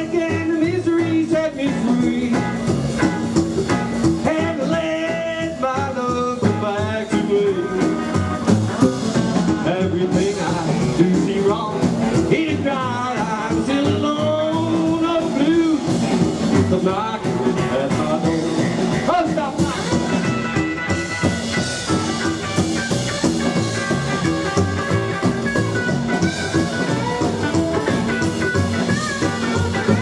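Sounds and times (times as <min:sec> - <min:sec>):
rockabilly band playing: 0:00.0 - 0:30.0.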